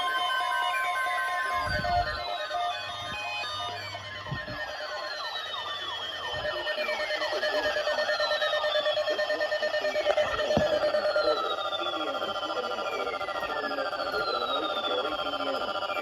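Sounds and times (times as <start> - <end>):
electronic alert alarms: 0.0 - 16.0
fast repeating falling chirps: 0.0 - 16.0
siren-like downward sweeps: 0.0 - 16.0
steady alarm tone: 0.0 - 16.0.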